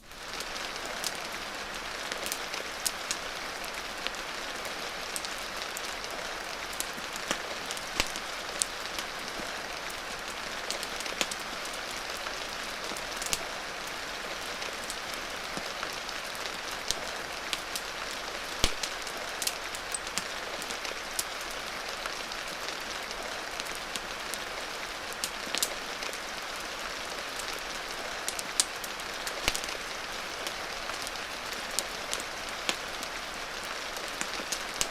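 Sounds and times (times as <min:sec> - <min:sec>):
steady rain hiss: 0:00.0 - 0:34.9
wood fire crackling: 0:00.1 - 0:34.9.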